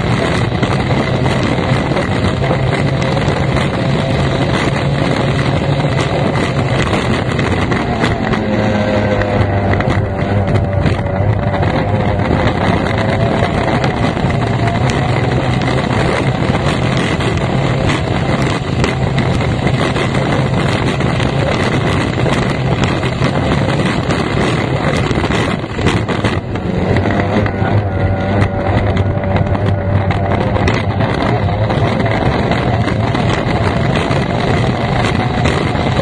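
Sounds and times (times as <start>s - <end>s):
hull and spray noise: 0.0s - 36.0s
powerboat outboard engine: 0.0s - 36.0s
wind buffeting microphone: 0.0s - 36.0s.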